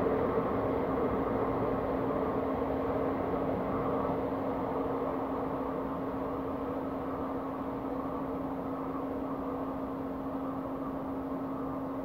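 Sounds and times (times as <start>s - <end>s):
idling railway vehicles humming: 0.0s - 12.0s.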